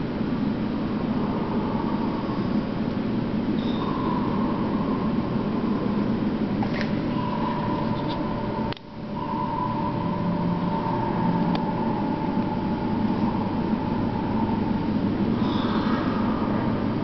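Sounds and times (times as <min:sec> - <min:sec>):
faint steady high tone: 0:00.0 - 0:17.0
machinery hum and hiss: 0:00.0 - 0:17.0.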